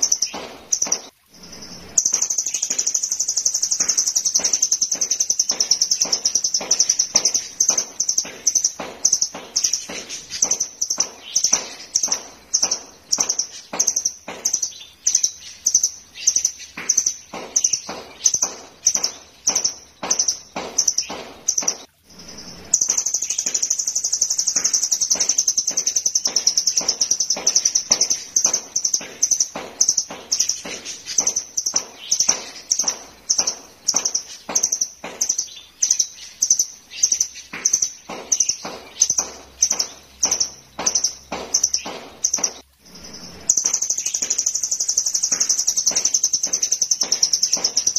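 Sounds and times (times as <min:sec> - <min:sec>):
bird calling with sharp high notes: 0:00.0 - 0:47.9
bird trilling: 0:00.0 - 0:47.9.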